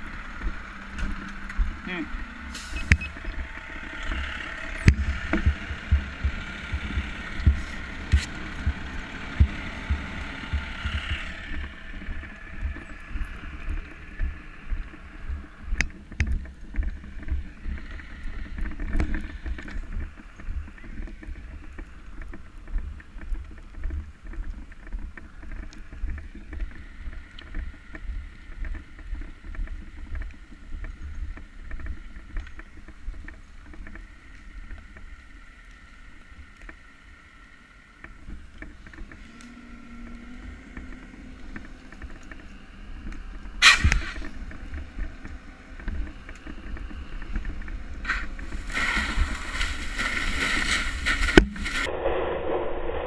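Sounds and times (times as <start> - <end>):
fire engine motor running: 0.0 - 24.2, 31.5 - 51.4.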